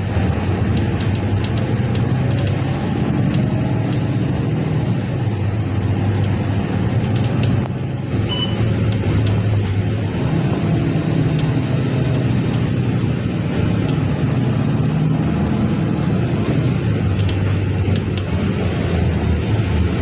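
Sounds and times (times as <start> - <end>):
bus engine hum: 0.0 - 20.0
road noise: 0.0 - 20.0.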